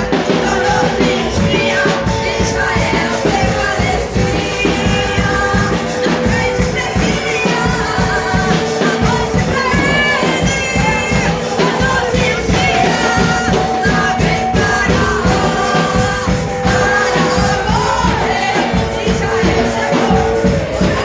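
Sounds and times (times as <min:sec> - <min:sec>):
held keyboard tone: 0:00.0 - 0:21.0
person singing: 0:00.0 - 0:21.0
worship band playing: 0:00.0 - 0:21.0.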